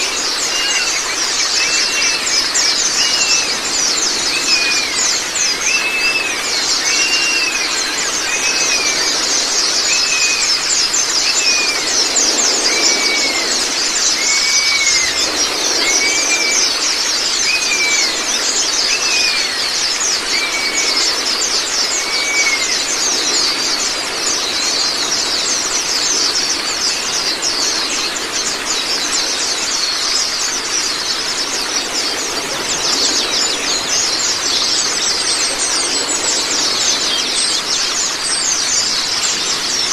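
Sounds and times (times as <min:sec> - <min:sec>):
birds twittering chorus: 0:00.0 - 0:39.9
running water: 0:00.0 - 0:39.9.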